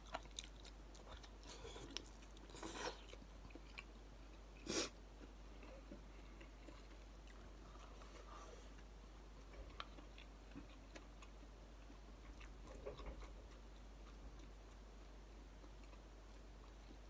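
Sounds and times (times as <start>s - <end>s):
faint low hum: 0.0s - 17.0s
soft chewing: 0.0s - 17.0s.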